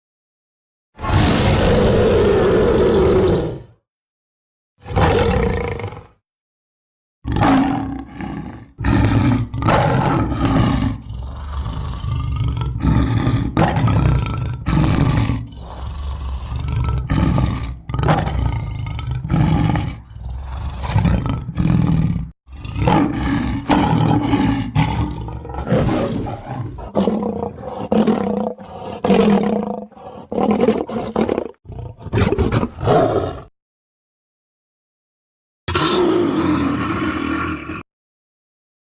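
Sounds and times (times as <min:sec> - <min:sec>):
animal roars and growls: 0:01.0 - 0:03.8, 0:04.8 - 0:06.2, 0:07.3 - 0:33.5, 0:35.7 - 0:37.9.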